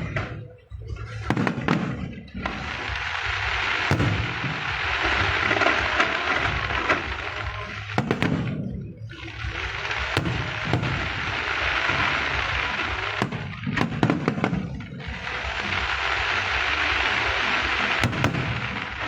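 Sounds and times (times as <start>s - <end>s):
fireworks bangs: 0.0s - 19.0s
fireworks hissing crackle: 0.0s - 19.0s.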